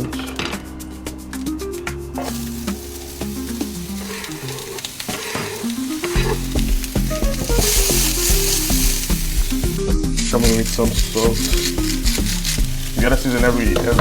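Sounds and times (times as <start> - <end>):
background music with bass: 0.0 - 14.0
onions sizzling in oil: 2.2 - 14.0
utensil stirring and tapping pan: 2.3 - 14.0.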